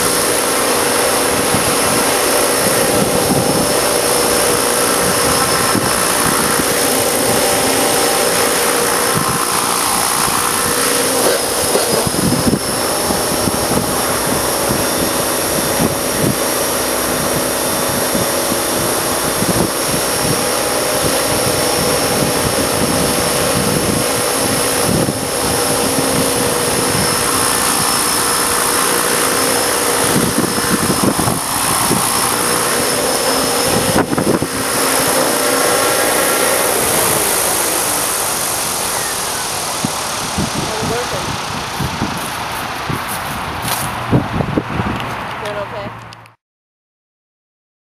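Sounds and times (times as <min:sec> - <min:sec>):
wind buffeting microphone: 0:00.0 - 0:46.0
rc helicopter motor whine: 0:00.0 - 0:46.2.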